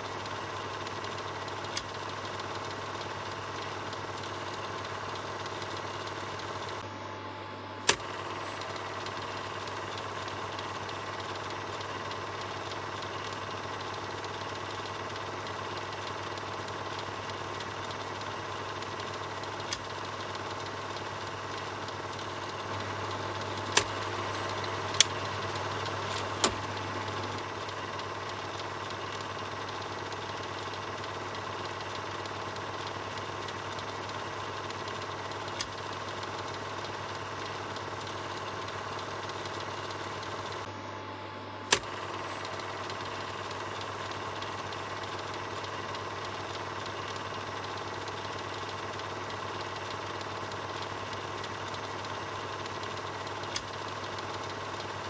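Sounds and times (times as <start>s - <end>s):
sharp clicks: 0.0s - 6.8s, 7.9s - 40.7s, 41.7s - 55.0s
film projector whirring: 0.0s - 55.0s.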